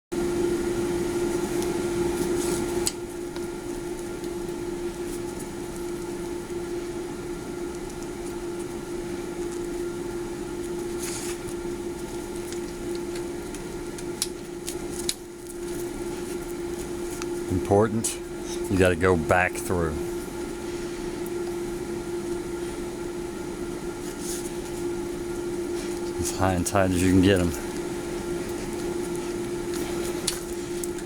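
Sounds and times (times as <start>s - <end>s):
steady mechanical hum: 0.1s - 31.0s.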